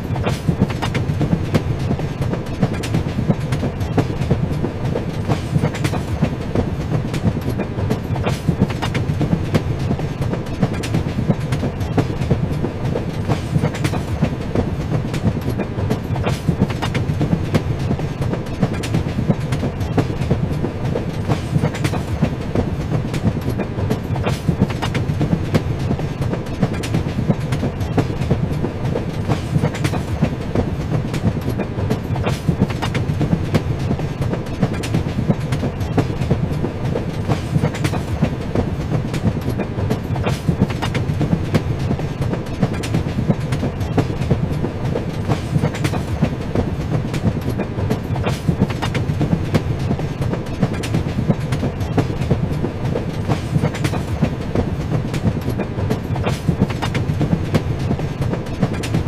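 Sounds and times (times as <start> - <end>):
train rumbling on tracks: 0.0 - 59.0
wheels clicking over rail joints: 0.0 - 59.0.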